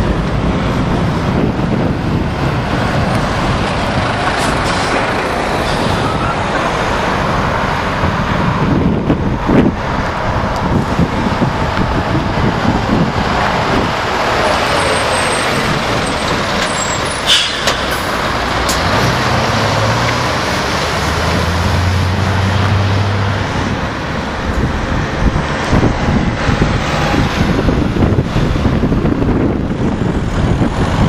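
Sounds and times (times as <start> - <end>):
truck engine passing by: 0.0 - 31.0.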